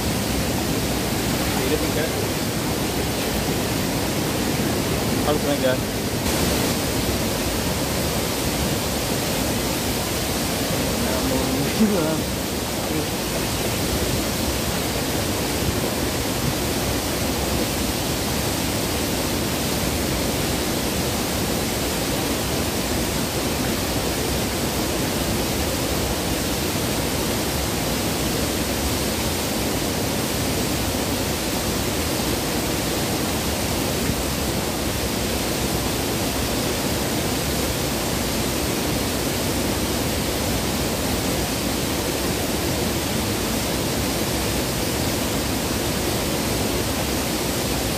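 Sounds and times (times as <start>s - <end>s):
river water rushing over rocks: 0.0s - 47.9s.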